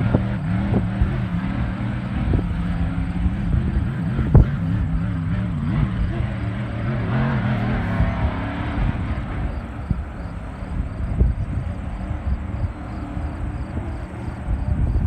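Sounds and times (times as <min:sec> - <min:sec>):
racing boat engines droning: 0:00.0 - 0:15.0.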